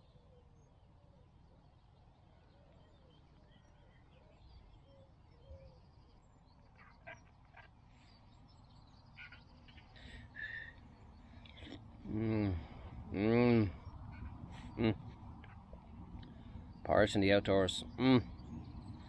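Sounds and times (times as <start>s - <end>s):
faint bird calls: 0.0s - 19.0s.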